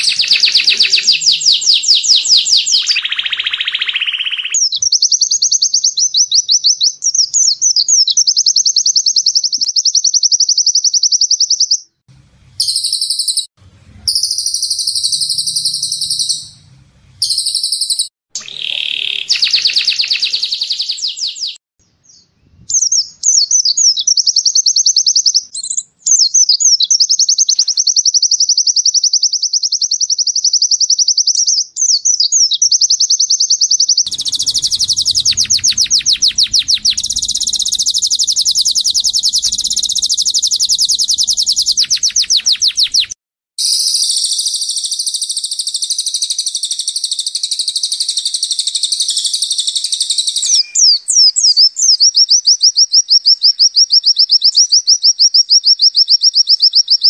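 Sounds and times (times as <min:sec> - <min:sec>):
fast high bird chirps: 0:00.0 - 0:12.0, 0:12.6 - 0:13.5, 0:14.1 - 0:21.6, 0:22.8 - 0:54.4
songbird song: 0:00.0 - 0:57.0.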